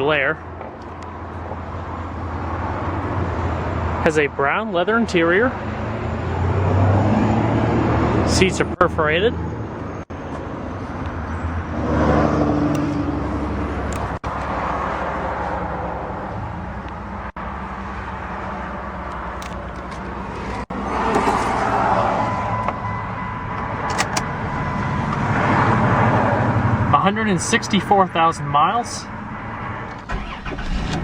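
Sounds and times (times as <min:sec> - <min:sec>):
vehicle noise hum and hiss: 0:00.0 - 0:06.6, 0:07.9 - 0:31.0.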